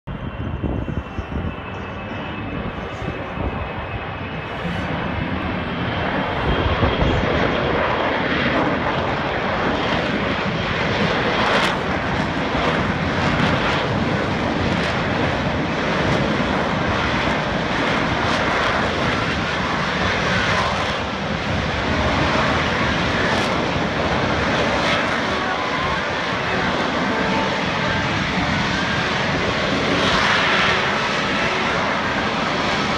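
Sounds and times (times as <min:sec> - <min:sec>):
jet aircraft flying overhead: 0:00.1 - 0:32.9.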